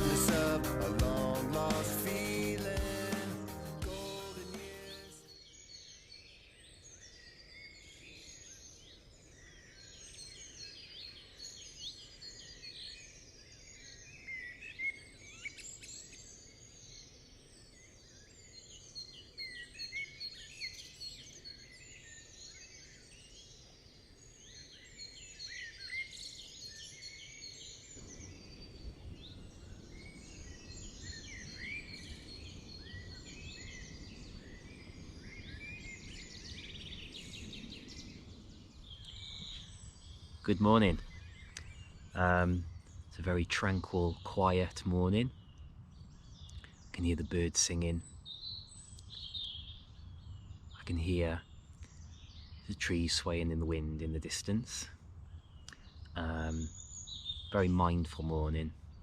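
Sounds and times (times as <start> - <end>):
songbirds chirping and whistling: 0.0 - 59.0.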